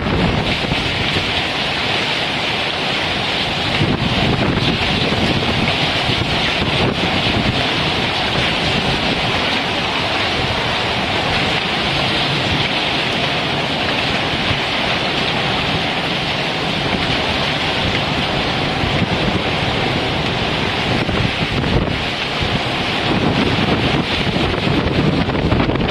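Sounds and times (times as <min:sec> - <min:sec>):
heavy rain and hail pelting: 0:00.0 - 0:25.9.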